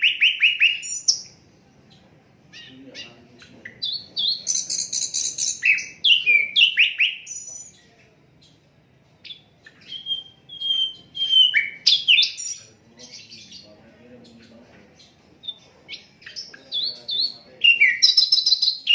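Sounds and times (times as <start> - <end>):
bird singing trills and whistles: 0.0 - 8.6, 9.2 - 13.7, 14.4 - 18.9.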